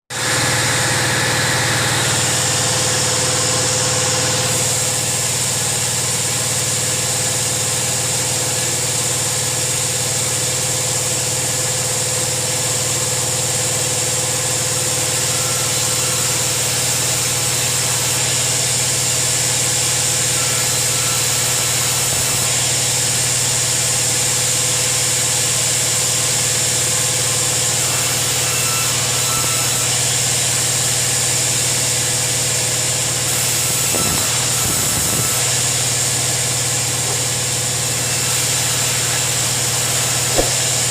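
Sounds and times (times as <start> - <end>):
bandsaw machine running: 0.1 - 40.9.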